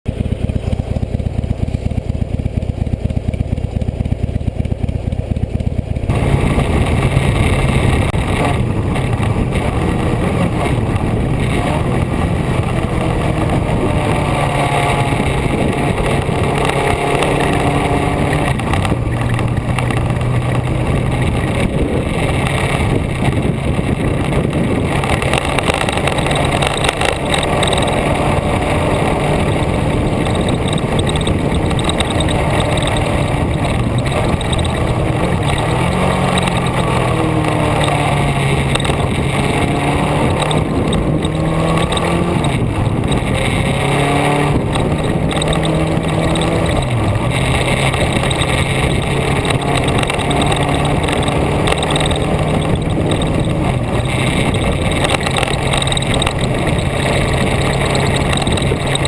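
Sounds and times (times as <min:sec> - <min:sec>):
vehicle engine running: 0:00.0 - 0:59.0
wind noise on microphone: 0:06.0 - 0:59.0.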